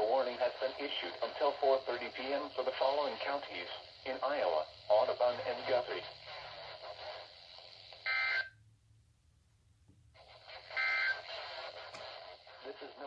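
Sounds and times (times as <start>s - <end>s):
radio receiver hiss: 0.0s - 8.5s, 9.9s - 13.0s.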